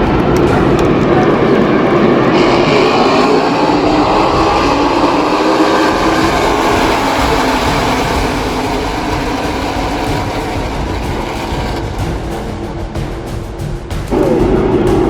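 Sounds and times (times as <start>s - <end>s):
race truck engines at speed: 0.0s - 13.5s.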